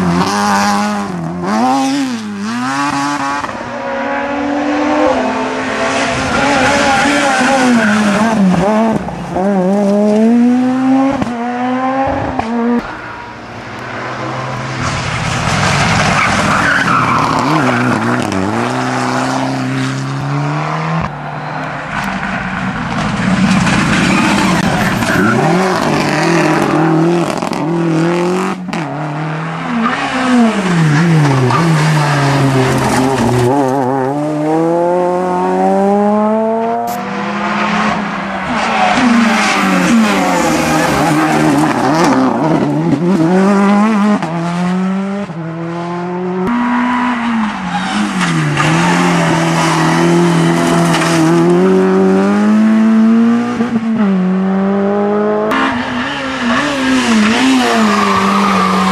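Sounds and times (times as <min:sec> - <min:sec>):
rally car engines revving: 0:00.0 - 0:58.9.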